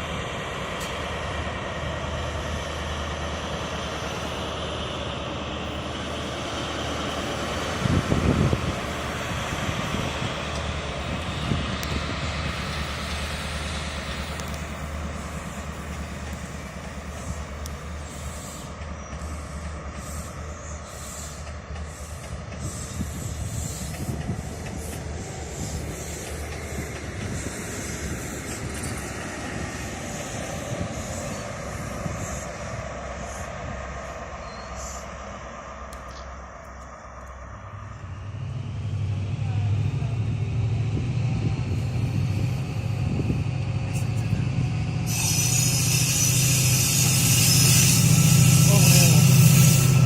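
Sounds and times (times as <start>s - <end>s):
train wheels and engine rumbling: 0.0s - 50.0s.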